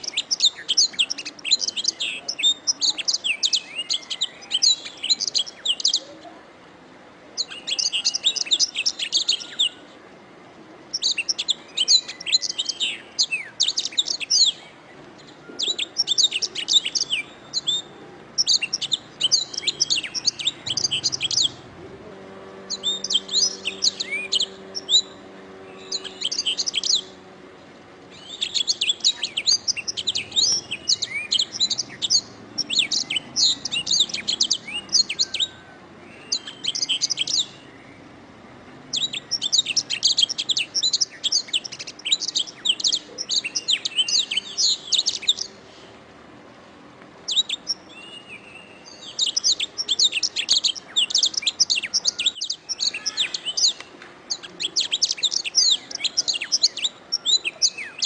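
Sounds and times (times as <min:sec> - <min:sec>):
canary singing trills: 0:00.0 - 0:06.4, 0:07.4 - 0:10.0, 0:10.9 - 0:45.7, 0:47.2 - 0:58.0.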